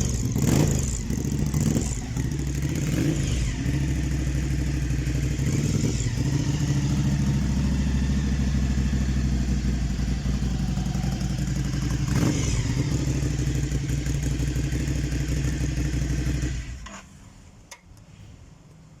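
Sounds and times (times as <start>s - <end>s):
motorcycle engine idling: 0.0s - 16.8s.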